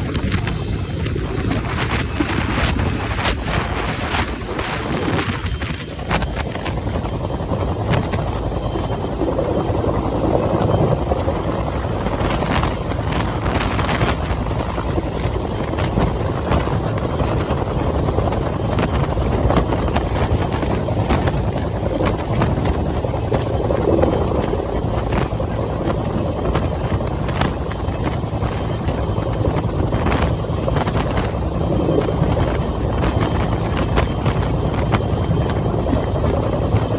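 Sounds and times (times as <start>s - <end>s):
helicopter engine and rotor: 0.0s - 36.9s
rotor downwash buffeting microphone: 0.0s - 36.9s.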